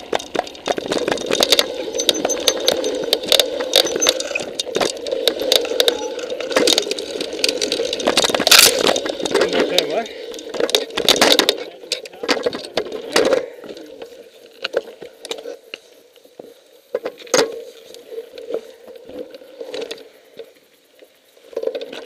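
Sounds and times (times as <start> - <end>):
bikes rattling on rocky trail: 0.0 - 22.0
faint steady hum: 0.0 - 22.0.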